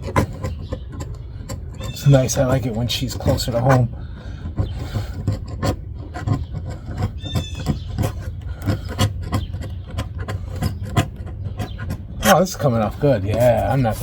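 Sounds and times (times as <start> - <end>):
short squeak: 0.0 - 2.6, 3.2 - 14.0
hand tool scraping adhesive: 0.0 - 14.0.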